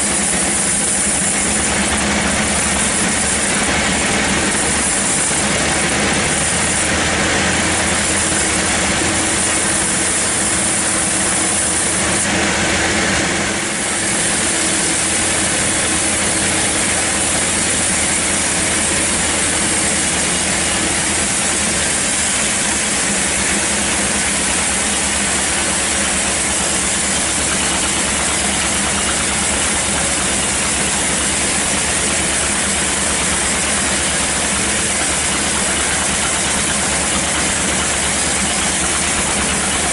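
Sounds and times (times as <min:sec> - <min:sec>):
band sawmill drone: 0:00.0 - 0:39.9
saw blade hiss: 0:00.0 - 0:39.9.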